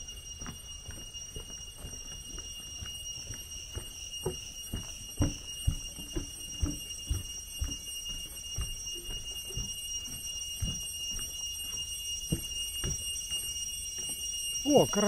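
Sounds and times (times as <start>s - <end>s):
footsteps on wooden boardwalk: 0.0s - 15.0s
high-pitched whine: 0.0s - 15.0s.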